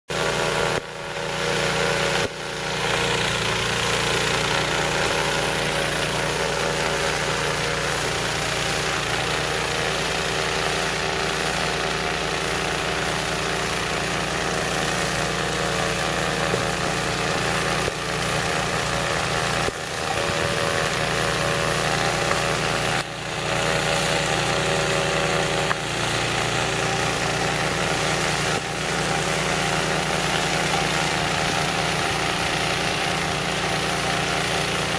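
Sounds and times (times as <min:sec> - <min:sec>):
snowblower engine running: 0:00.1 - 0:34.9.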